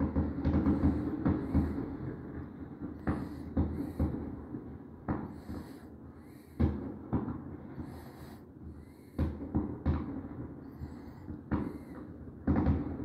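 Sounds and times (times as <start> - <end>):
fireworks bursting with echo: 0.0 - 13.0.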